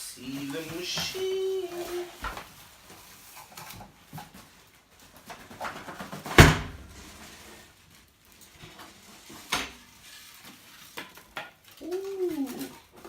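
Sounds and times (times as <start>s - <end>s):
packaging rustling: 0.1s - 13.0s.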